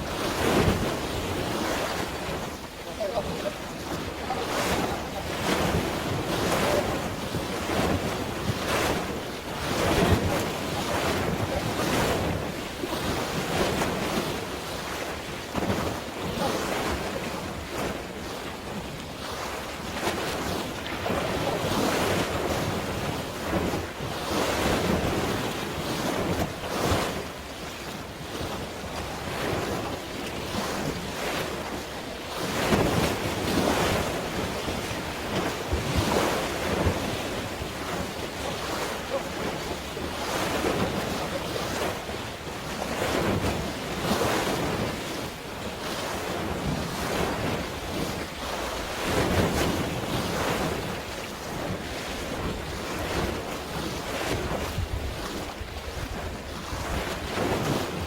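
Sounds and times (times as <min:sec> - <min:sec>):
wind buffeting microphone: 0:00.0 - 0:27.4, 0:28.2 - 0:58.0
water waves washing: 0:00.0 - 0:58.0.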